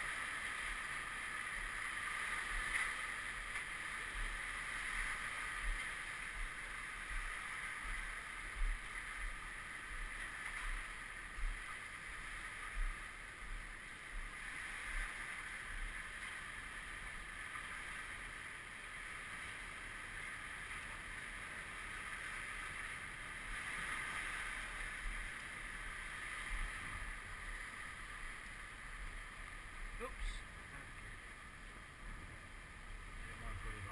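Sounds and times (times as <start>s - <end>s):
lake water washing on shore: 0.0s - 33.9s.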